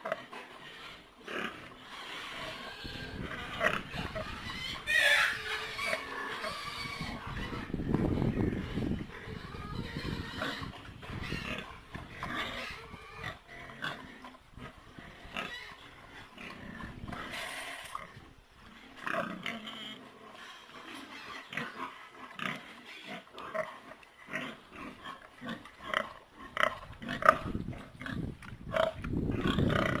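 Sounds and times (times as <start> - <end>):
pigs grunting and squealing: 0.0 - 30.0.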